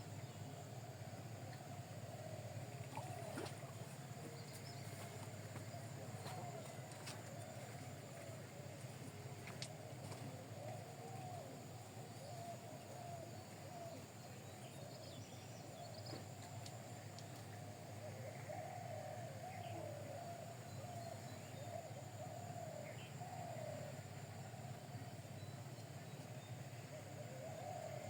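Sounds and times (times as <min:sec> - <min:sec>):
low wavering bird calls: 0:00.0 - 0:09.5, 0:10.1 - 0:28.0
steady low hum: 0:00.0 - 0:28.0.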